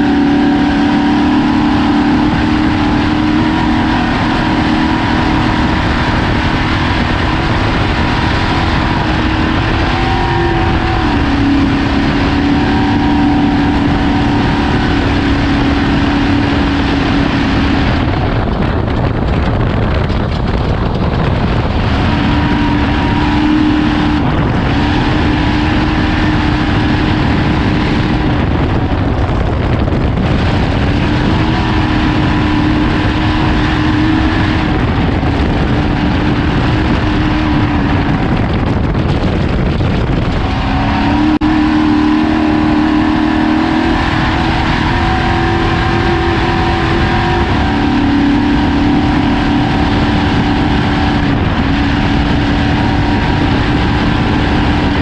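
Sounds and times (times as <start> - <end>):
loud rushing noise: 0.0 - 55.0
truck engine revving: 0.0 - 55.0.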